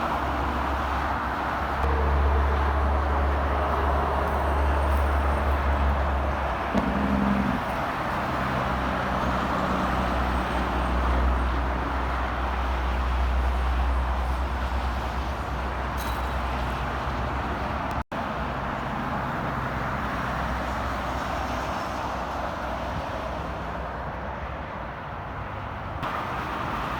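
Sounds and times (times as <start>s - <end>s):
diesel truck engines droning: 0.0s - 26.9s
tyre roar of passing vehicles: 0.0s - 26.9s.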